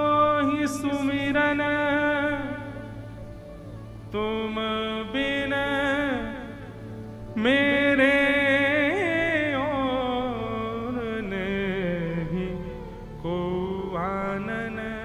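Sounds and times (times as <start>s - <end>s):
man singing devotional song: 0.0s - 3.2s, 4.1s - 15.0s.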